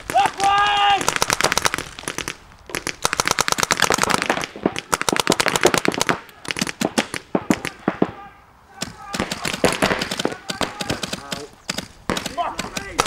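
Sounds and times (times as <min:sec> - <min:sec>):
paintball markers firing: 0:00.0 - 0:08.2, 0:08.8 - 0:13.0.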